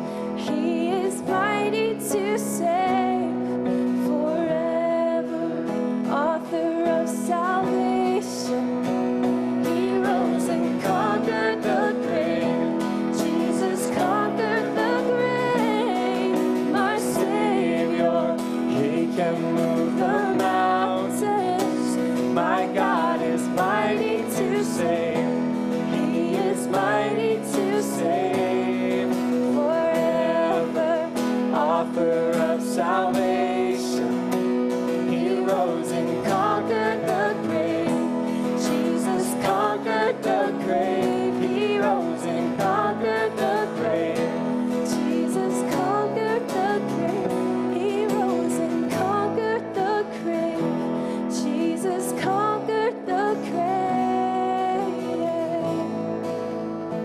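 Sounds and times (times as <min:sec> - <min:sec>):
acoustic guitar: 0:00.0 - 0:57.0
piano: 0:00.0 - 0:57.0
person singing worship song: 0:09.6 - 0:55.7.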